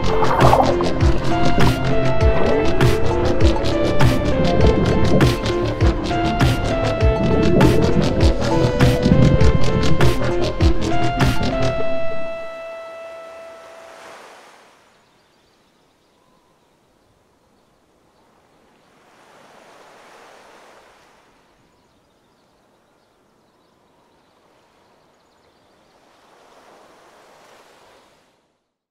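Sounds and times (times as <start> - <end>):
ocean waves washing in: 0.0 - 15.2, 17.2 - 21.7, 24.0 - 28.5.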